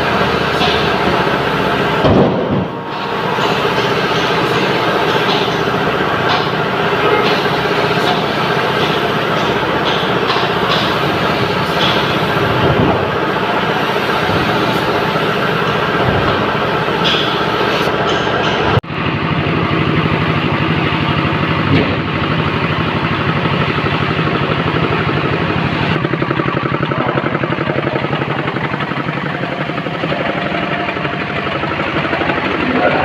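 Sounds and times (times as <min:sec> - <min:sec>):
engine running with fast pulse: 0:00.0 - 0:33.0.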